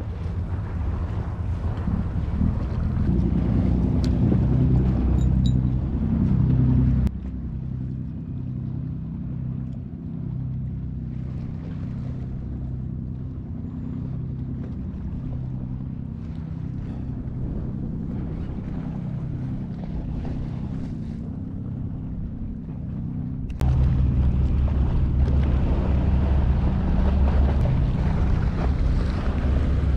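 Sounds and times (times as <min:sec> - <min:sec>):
low hum: 0:00.0 - 0:29.9
sea washing against breakwater: 0:00.0 - 0:29.9
wind buffeting microphone: 0:00.0 - 0:29.9.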